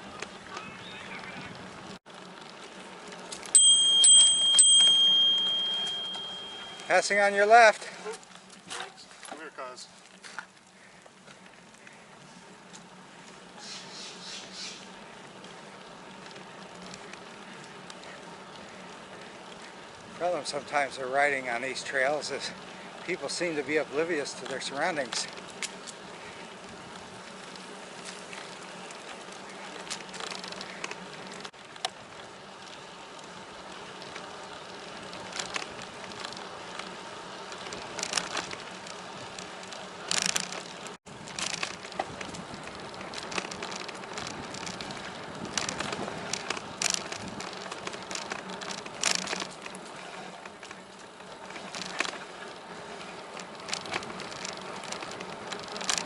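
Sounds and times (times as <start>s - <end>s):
bicycle tyres and drivetrain hum: 0.0s - 56.0s.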